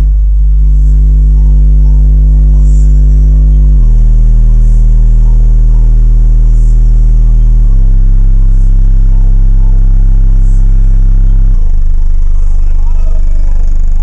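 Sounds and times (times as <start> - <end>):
car subwoofers playing deep bass: 0.0 - 14.0.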